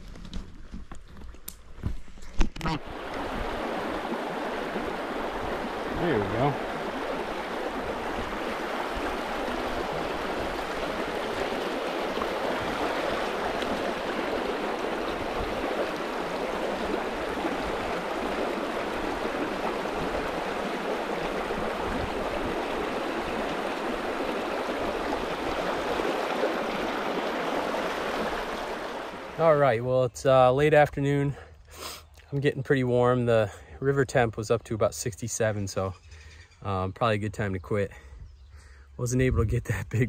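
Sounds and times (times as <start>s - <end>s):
creek water flowing: 0.0s - 40.0s.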